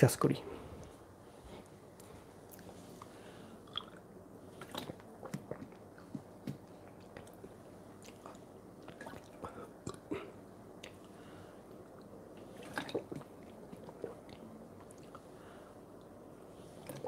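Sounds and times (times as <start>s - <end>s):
person drinking water: 1.6s - 17.0s.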